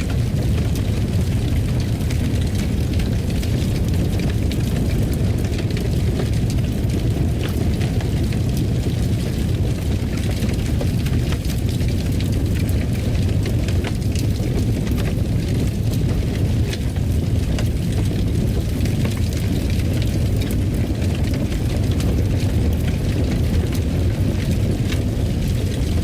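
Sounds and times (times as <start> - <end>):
fire crackling and popping: 0.0 - 26.0
fire roaring in a fireplace: 0.0 - 26.0.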